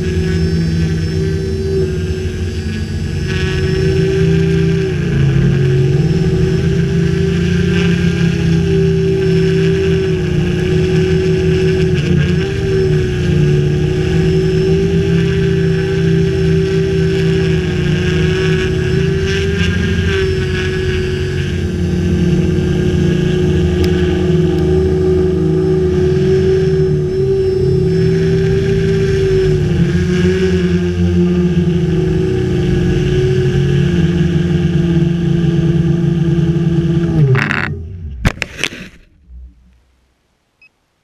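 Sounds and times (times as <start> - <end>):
quadcopter motors buzzing: 0.0 - 39.1
drone hitting the ground: 0.0 - 39.7.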